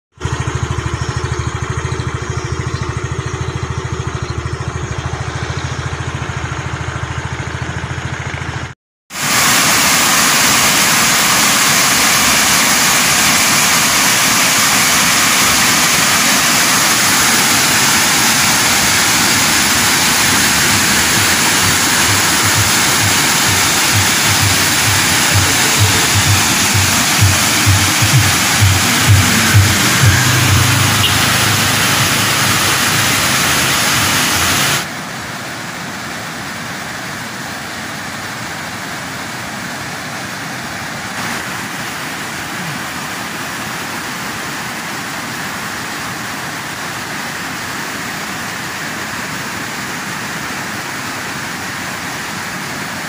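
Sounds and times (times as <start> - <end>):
engine running with fast pulse: 0.1 - 52.5
water rushing over rock: 9.1 - 53.0.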